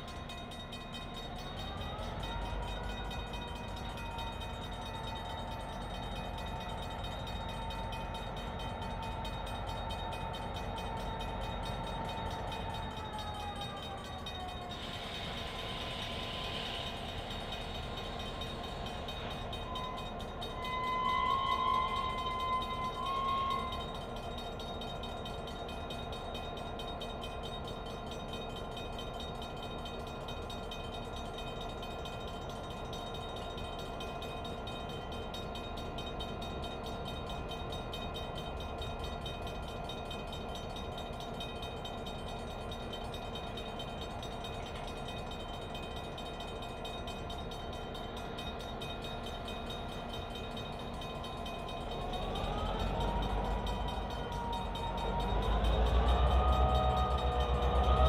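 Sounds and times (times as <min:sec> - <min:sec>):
diesel locomotive engine running: 0:00.0 - 0:58.0.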